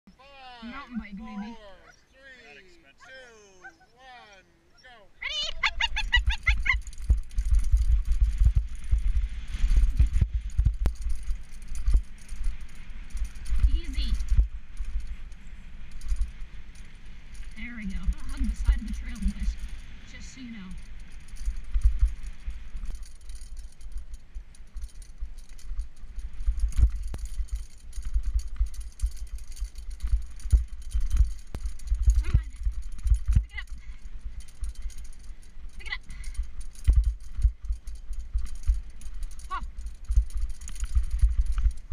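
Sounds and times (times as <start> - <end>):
wind rumbling on microphone: 5.2 - 41.9
bike rattling over rough dirt track: 5.3 - 41.9.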